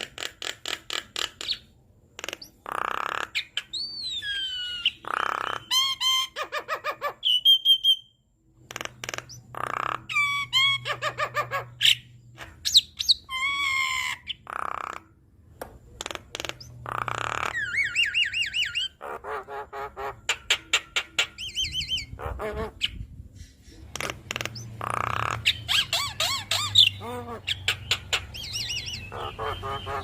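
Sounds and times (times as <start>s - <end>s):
bird singing varied song: 2.4s - 15.0s, 16.0s - 19.6s, 20.2s - 30.0s.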